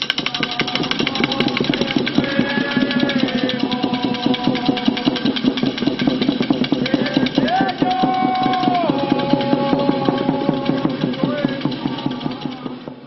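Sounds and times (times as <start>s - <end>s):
wooden rattle clattering: 0.0s - 12.8s.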